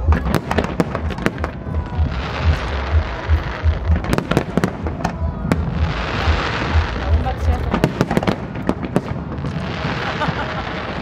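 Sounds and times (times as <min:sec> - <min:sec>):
firework crackling: 0:00.0 - 0:11.0.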